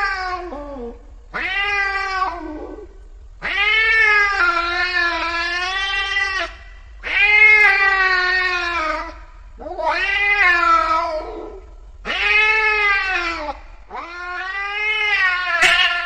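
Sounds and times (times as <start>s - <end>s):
angry cat yowling: 0.0s - 16.0s.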